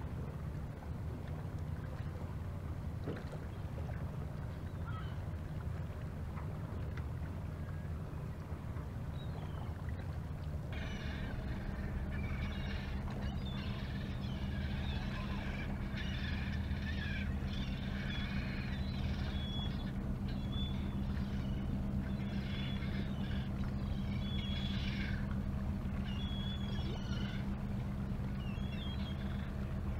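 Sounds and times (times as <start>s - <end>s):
boat engine droning: 0.0s - 29.9s.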